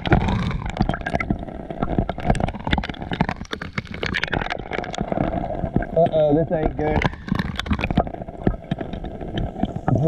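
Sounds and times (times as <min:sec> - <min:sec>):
sea water splashing: 0:00.0 - 0:10.0.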